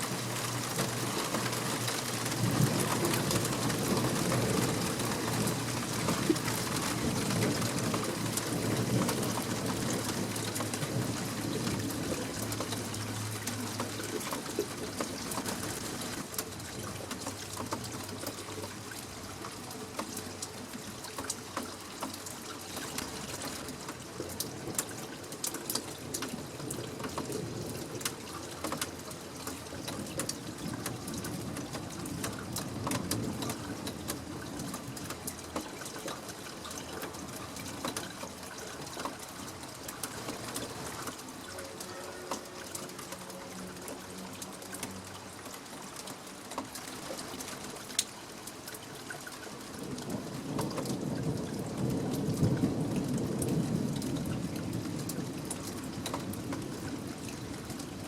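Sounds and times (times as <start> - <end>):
close drips and splashes: 0.0 - 58.0
rain falling: 0.0 - 58.0
water splashing and trickling: 0.0 - 58.0.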